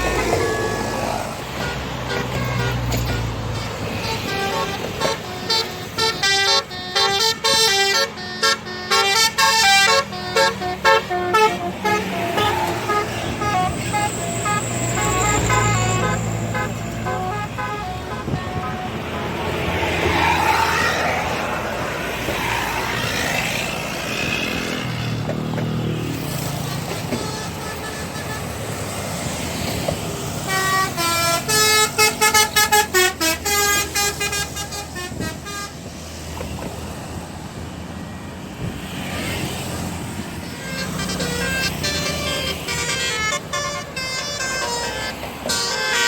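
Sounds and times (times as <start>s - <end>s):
bus horn playing melodies: 0.0s - 22.5s, 26.2s - 36.0s, 39.7s - 46.0s
passing road traffic: 0.0s - 46.0s.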